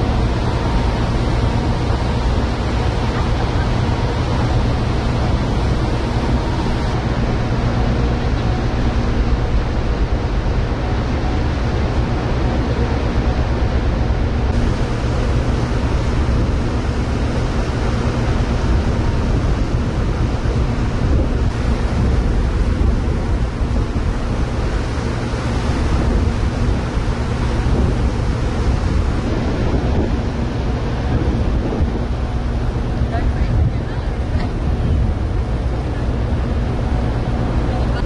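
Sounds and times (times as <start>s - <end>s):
ship engines droning: 0.0s - 38.0s
water churning: 0.0s - 38.0s
wind buffeting microphone: 0.0s - 38.0s.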